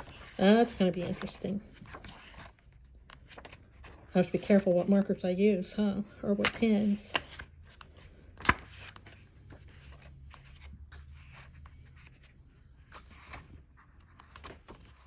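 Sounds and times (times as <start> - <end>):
book pages turning: 0.0 - 5.4, 6.3 - 15.0.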